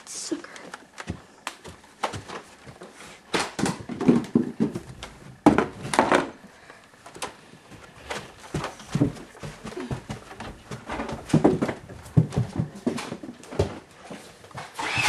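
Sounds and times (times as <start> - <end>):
footsteps on carpeted stairs: 0.6 - 14.8.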